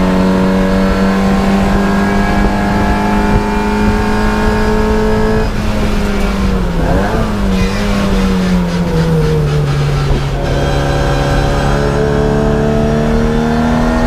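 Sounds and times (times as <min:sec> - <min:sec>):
race car engine at high revs: 0:00.0 - 0:14.0.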